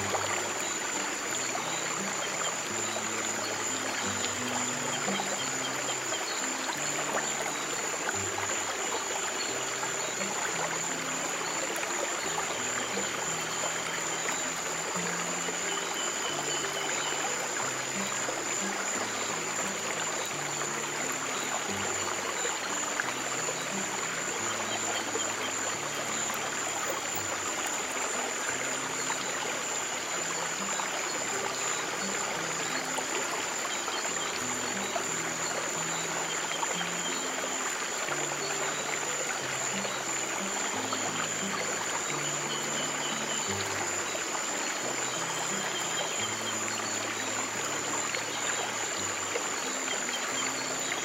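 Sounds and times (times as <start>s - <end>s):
stream water rushing: 0.0s - 51.0s.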